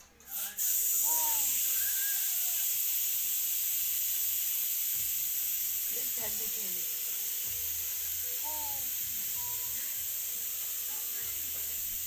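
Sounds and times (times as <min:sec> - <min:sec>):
loud high-pitched hiss: 0:00.3 - 0:12.0.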